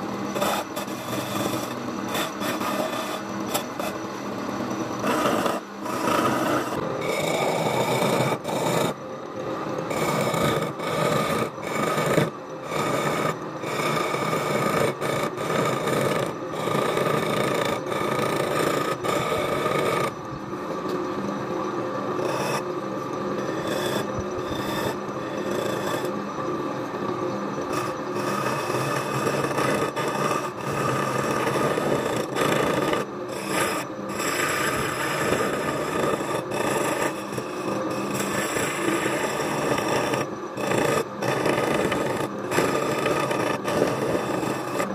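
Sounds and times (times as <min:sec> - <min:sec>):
chisel rasping on spinning wood: 0:00.0 - 0:20.9, 0:21.6 - 0:44.9
lathe humming: 0:00.0 - 0:44.9.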